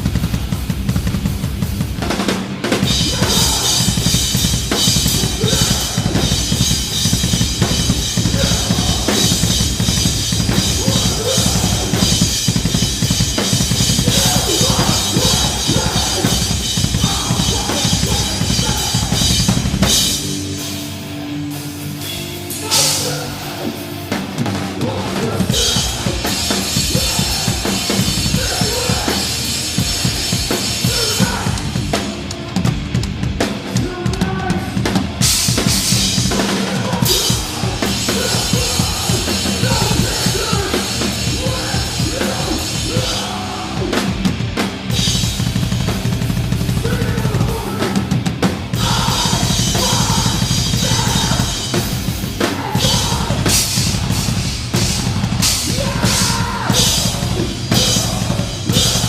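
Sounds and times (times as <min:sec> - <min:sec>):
pounding drums: 0:00.0 - 0:20.7, 0:22.6 - 0:59.0
hardcore band playing loud: 0:00.0 - 0:59.0.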